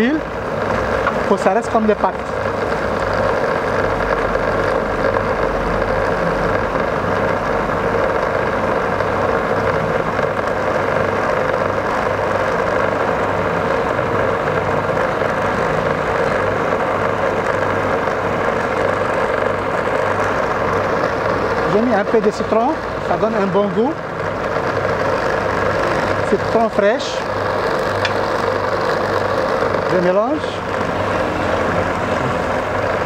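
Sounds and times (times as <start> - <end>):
electric blender motor whining: 0.0 - 33.0.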